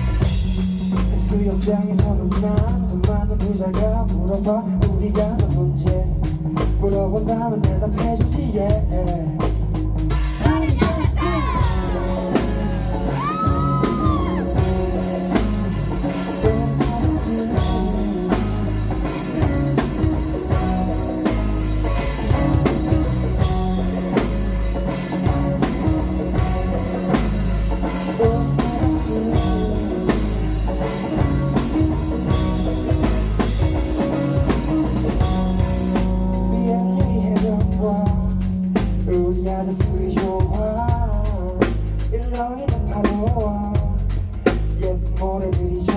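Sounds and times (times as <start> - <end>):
song with drums bass and guitar: 0.0 - 45.9
person singing: 0.9 - 45.9.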